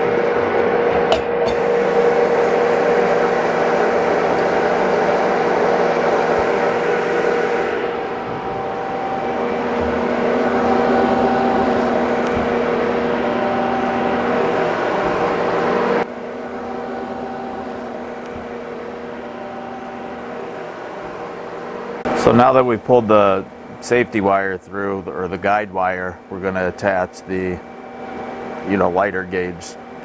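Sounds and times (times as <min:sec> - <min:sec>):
shop machinery humming: 0:00.0 - 0:30.0.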